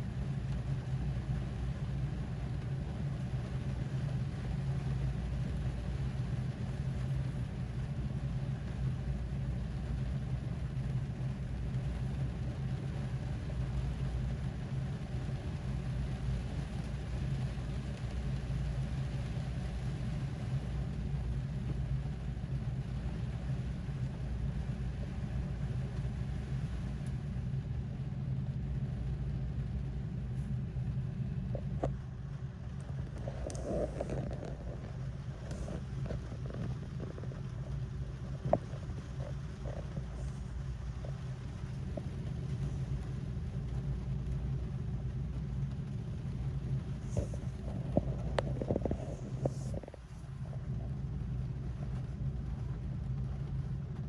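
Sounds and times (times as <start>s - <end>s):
rain on car roof: 0.1s - 54.0s.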